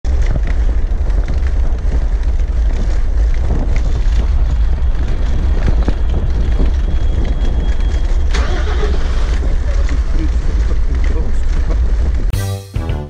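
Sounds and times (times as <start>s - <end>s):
wind rumble on microphone: 0.0s - 12.3s
bike frame rattling on cobblestones: 0.1s - 12.3s.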